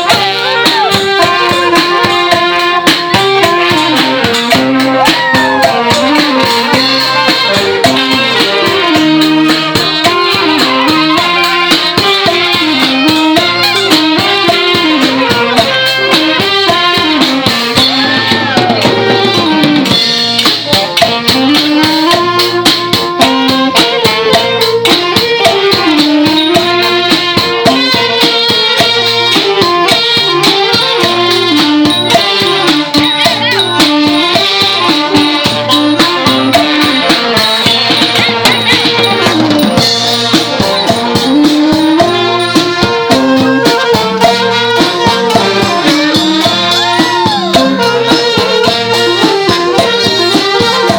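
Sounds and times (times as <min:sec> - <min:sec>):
brass band melody: 0:00.0 - 0:50.9
fast drum and percussion: 0:00.0 - 0:50.9.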